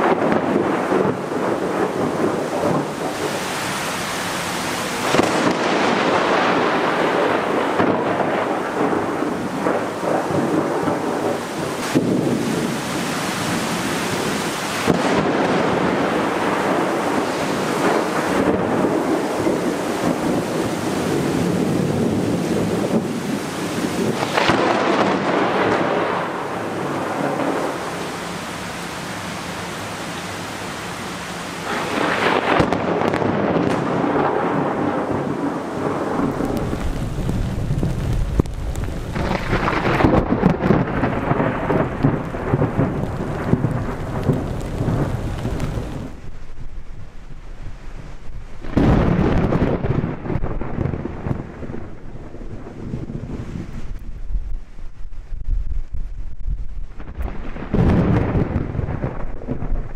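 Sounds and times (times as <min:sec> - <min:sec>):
thunder claps and rumble: 0:00.0 - 0:28.3, 0:31.6 - 0:47.4, 0:48.2 - 0:59.9
heavy rain pouring: 0:00.0 - 0:59.9.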